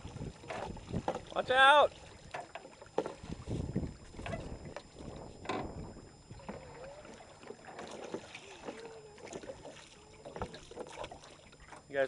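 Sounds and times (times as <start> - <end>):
oars splashing and knocking: 0.0 - 12.0
water noise: 0.0 - 12.0.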